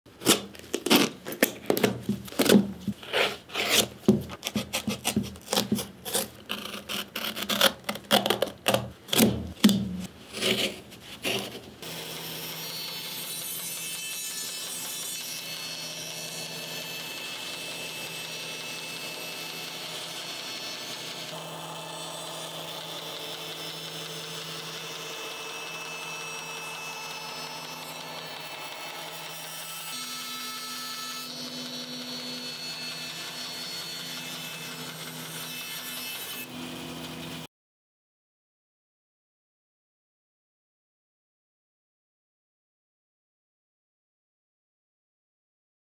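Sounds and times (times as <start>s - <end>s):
band saw cutting: 0.2s - 37.5s.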